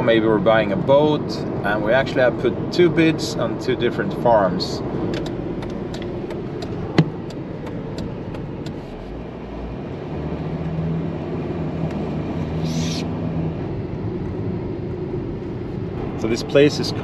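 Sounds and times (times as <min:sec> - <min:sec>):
car road noise inside cabin: 0:00.0 - 0:17.0.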